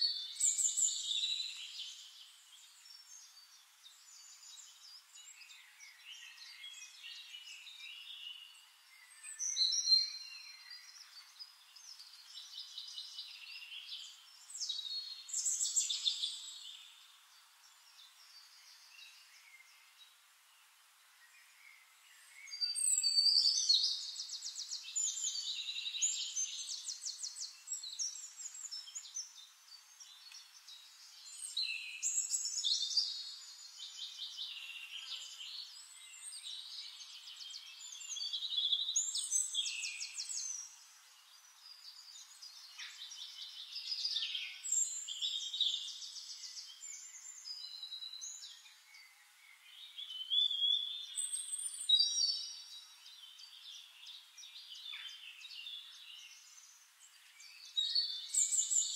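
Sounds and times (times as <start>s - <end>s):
birds chirping and singing: 0.0s - 20.2s, 21.2s - 58.9s.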